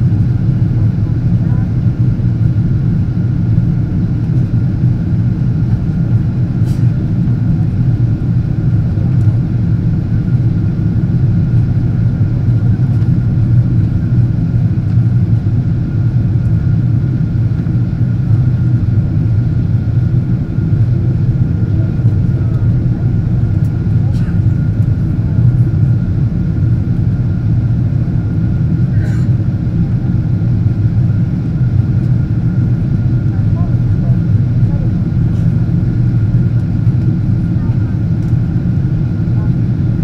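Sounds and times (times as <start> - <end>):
airliner cabin engine roar: 0.0 - 40.0.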